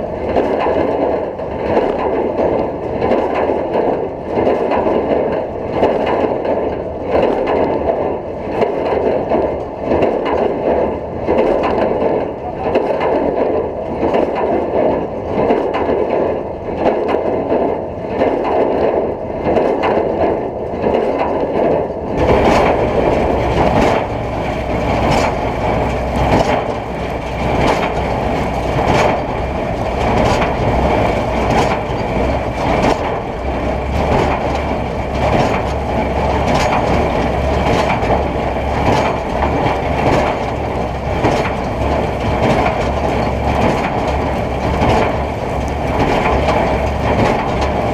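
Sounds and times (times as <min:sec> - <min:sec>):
baler clattering and crunching: 0:00.0 - 0:47.9
tractor engine running: 0:00.0 - 0:47.9.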